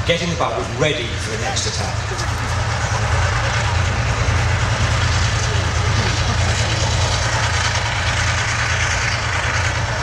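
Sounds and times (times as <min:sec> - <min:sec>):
armoured vehicle engines running: 0:00.0 - 0:10.0.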